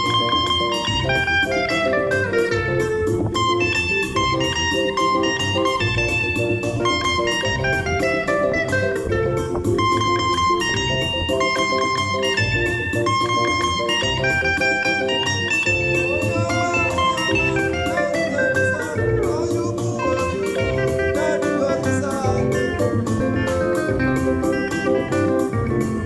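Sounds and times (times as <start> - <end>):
plucked guitar music with beat: 0.0 - 26.0.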